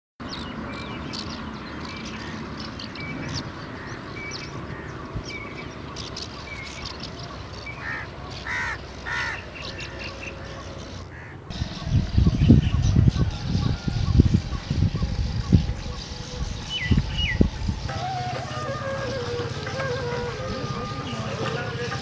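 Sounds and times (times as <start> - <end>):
birds chirping: 0.2 - 22.0.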